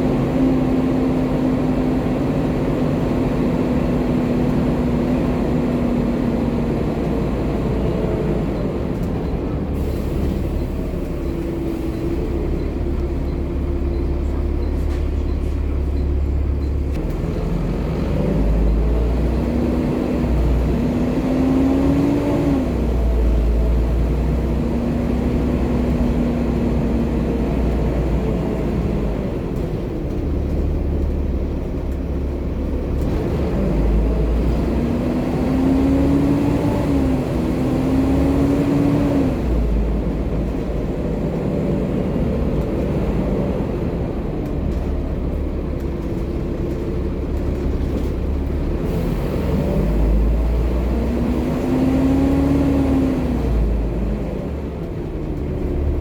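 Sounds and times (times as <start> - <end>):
bus engine drone with whine: 0.0 - 56.0.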